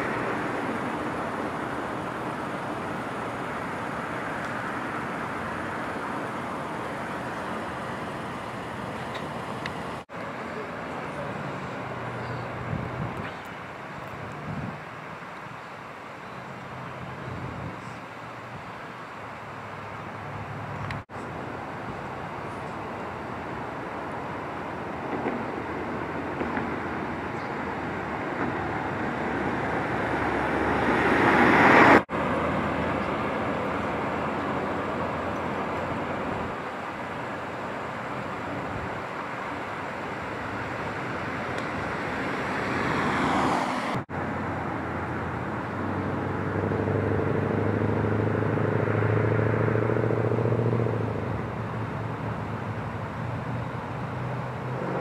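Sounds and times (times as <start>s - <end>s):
vehicle engine humming low: 0.0s - 55.0s
vehicles passing close by: 0.0s - 55.0s.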